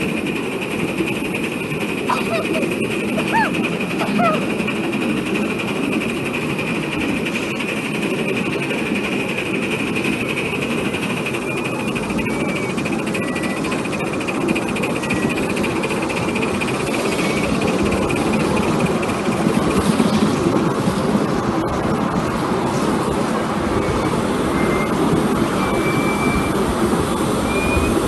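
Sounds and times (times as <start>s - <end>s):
steam locomotive exhaust: 0.0s - 28.0s
wheels on rail: 0.0s - 28.0s.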